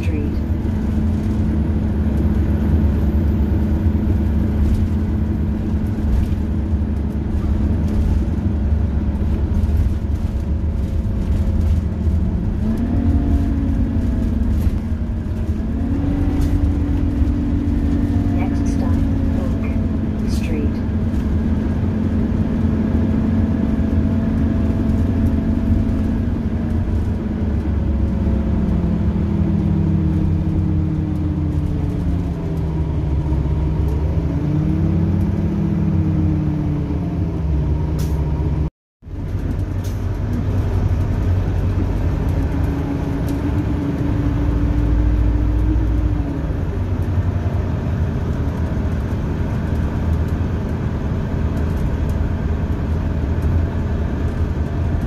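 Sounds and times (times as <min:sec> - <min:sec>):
bus engine while driving: 0:00.0 - 0:55.0
low engine rumble: 0:00.0 - 0:55.0.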